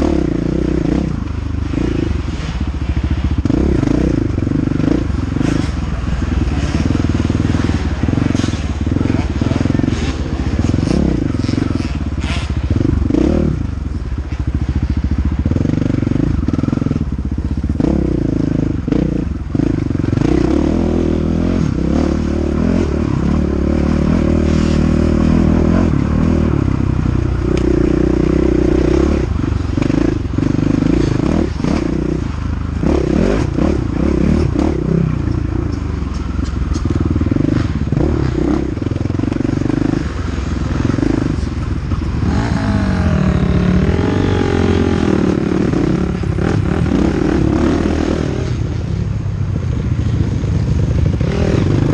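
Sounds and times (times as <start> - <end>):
dirt bike engine revving: 0.0 - 13.6, 14.9 - 35.3, 36.1 - 49.0, 51.0 - 51.9.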